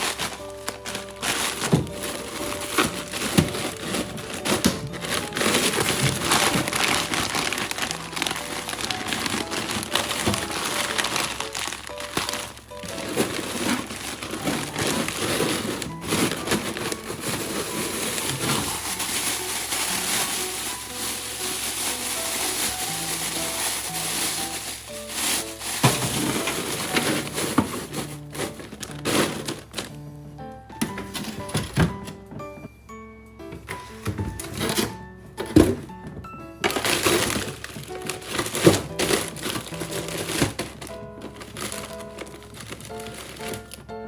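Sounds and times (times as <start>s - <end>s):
packaging crinkling: 0.0s - 30.0s, 30.8s - 32.3s, 36.6s - 43.9s
background music: 0.0s - 44.0s.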